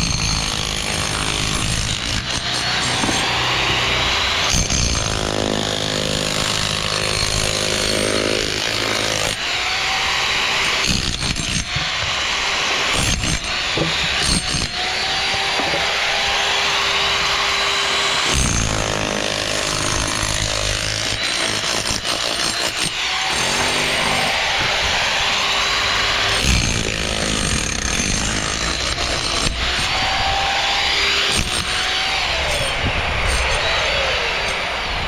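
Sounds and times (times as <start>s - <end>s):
power tool running: 0.0s - 35.0s.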